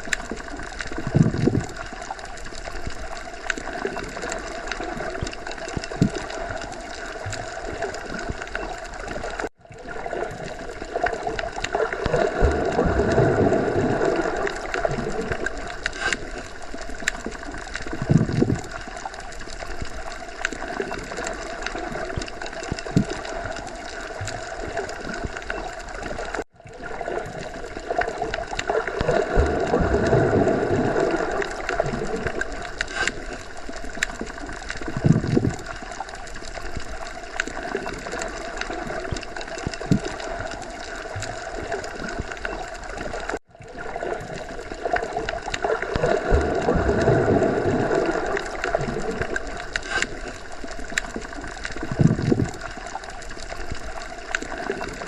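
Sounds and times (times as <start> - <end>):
underwater churning gurgling water: 0.0 - 55.0.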